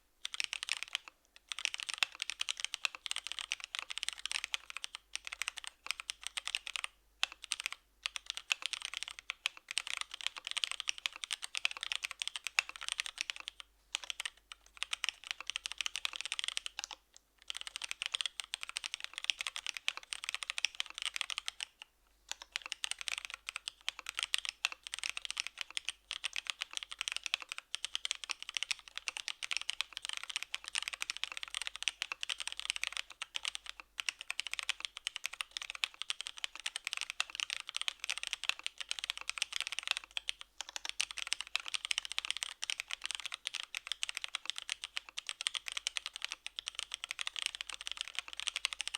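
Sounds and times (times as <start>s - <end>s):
mechanical keyboard typing: 0.2s - 48.9s.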